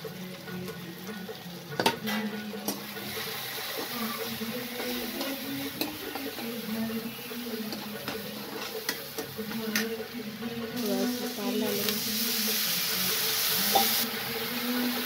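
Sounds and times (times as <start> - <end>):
onions frying in oil: 0.0 - 15.0.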